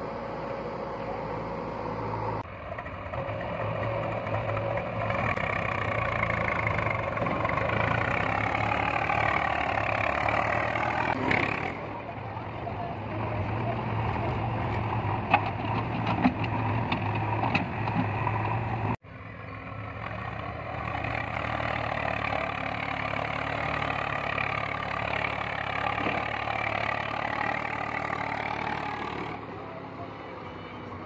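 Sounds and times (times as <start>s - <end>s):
diesel engines idling: 0.0s - 31.0s
tractor engine running: 0.0s - 31.0s.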